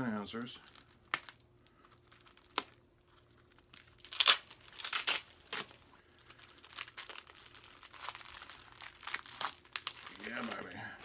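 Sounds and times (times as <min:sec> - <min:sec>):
plastic wrapping crinkling and tearing: 0:00.4 - 0:11.0.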